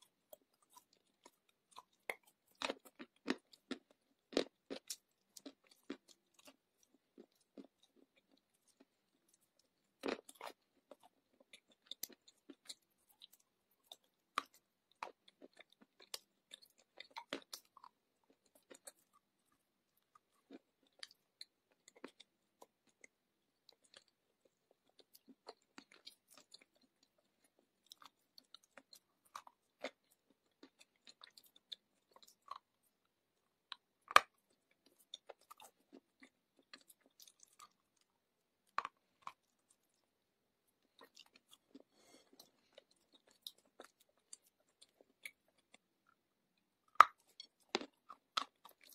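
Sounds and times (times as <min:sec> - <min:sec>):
clay being chewed crunches: 0:00.0 - 0:48.9.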